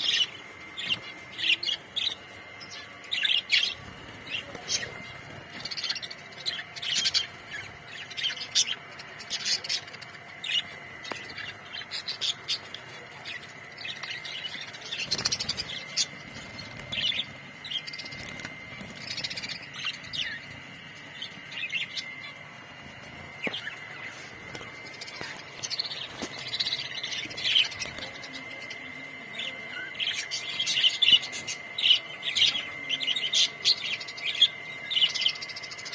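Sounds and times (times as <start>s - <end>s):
budgerigars chirping and warbling: 0.0s - 35.9s.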